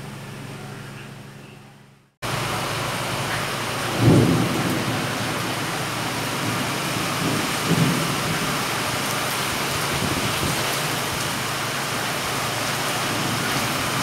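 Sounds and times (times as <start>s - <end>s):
heavy rain falling: 2.2s - 14.0s.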